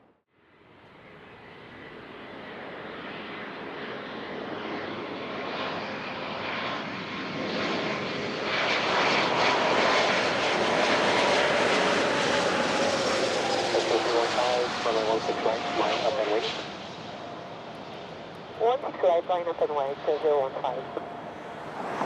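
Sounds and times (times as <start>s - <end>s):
jet engine roar approaching: 0.4s - 22.0s.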